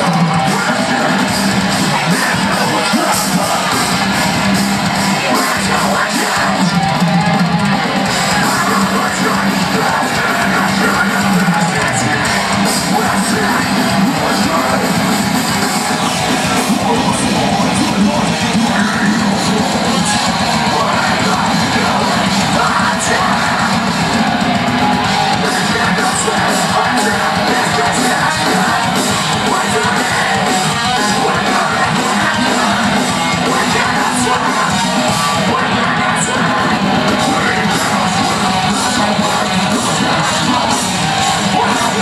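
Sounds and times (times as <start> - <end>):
distorted electric guitars: 0.0 - 42.0
harsh shouted vocals: 0.0 - 42.0
metal band playing live: 0.0 - 42.0.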